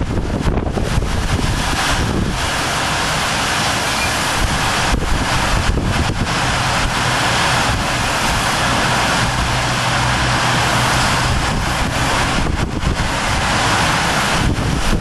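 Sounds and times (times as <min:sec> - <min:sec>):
storm wind blowing hard: 0:00.0 - 0:15.0
wind buffeting microphone: 0:00.0 - 0:15.0.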